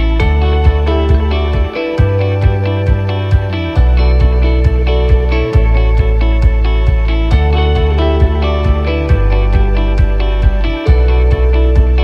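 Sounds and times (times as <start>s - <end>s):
guitar-led song with steady beat: 0.0s - 12.0s.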